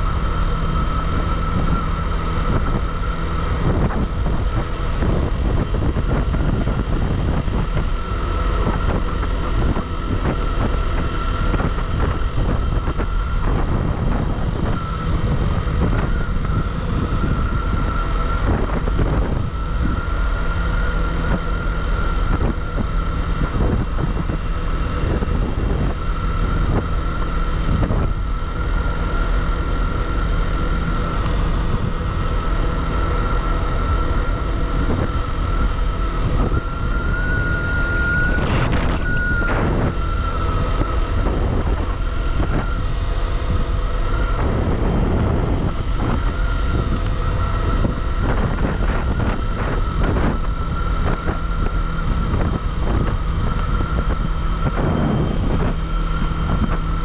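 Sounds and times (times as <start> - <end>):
motorcycle engine cruising: 0.0 - 57.0
road and wind noise: 0.0 - 57.0
steady high whine: 0.0 - 57.0.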